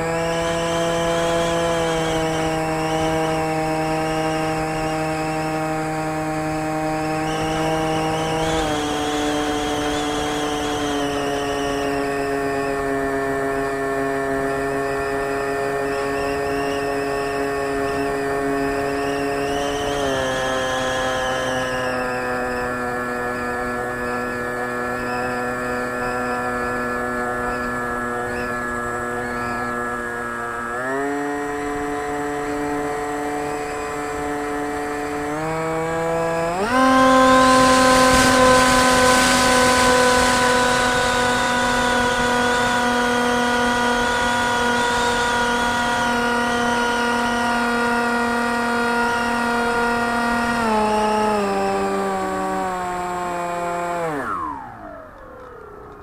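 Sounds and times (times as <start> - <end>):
electric motor and propeller whine: 0.0 - 56.0.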